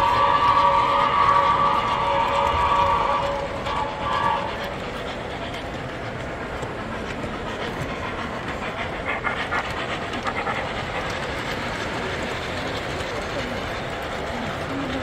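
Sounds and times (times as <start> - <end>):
model train wheels clicking: 0.0 - 15.0.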